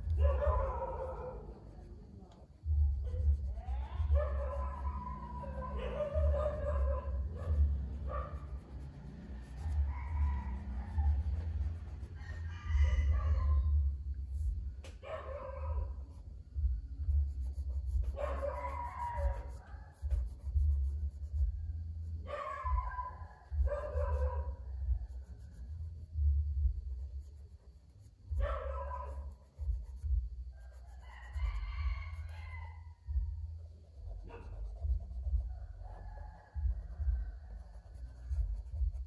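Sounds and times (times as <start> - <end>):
steady low rumble: 0.0 - 30.8, 31.4 - 39.0.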